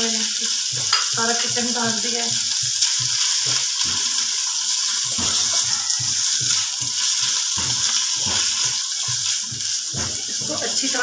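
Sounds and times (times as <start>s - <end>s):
chicken sizzling in a pan: 0.0s - 11.0s
spoon stirring in a pan: 0.0s - 11.0s.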